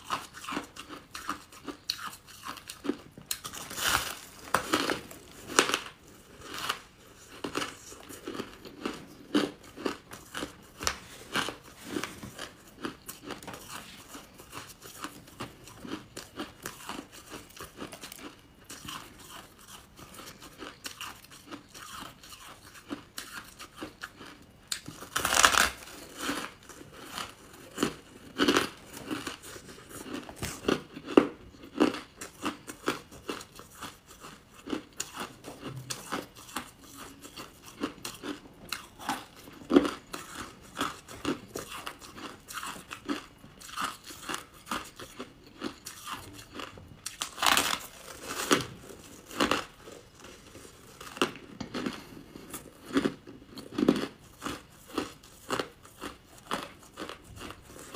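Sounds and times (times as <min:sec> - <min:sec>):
quiet chewing crunches: 0:00.0 - 0:25.2, 0:25.8 - 0:57.9.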